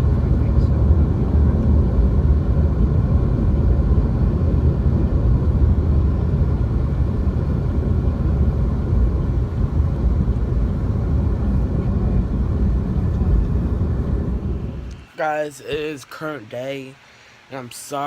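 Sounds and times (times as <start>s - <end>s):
low rumble of moving vehicle: 0.0s - 15.0s.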